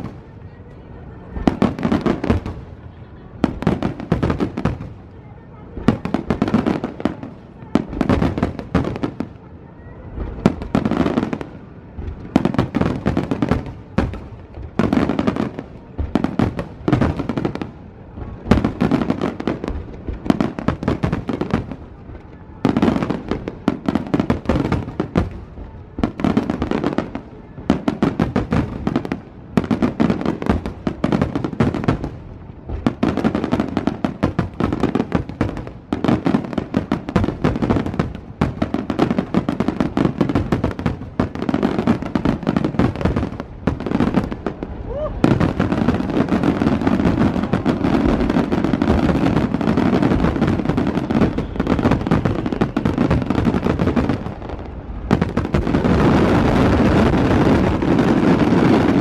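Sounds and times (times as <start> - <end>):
fireworks crackling: 0.0 - 59.0.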